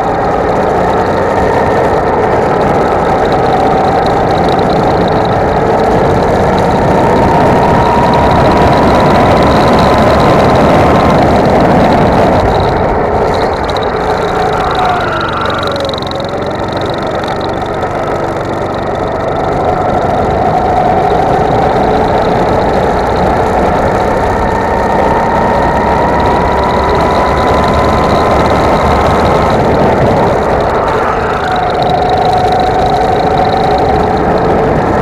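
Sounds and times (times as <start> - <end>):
go-kart engine: 0.0 - 35.0
wind noise: 0.0 - 35.0.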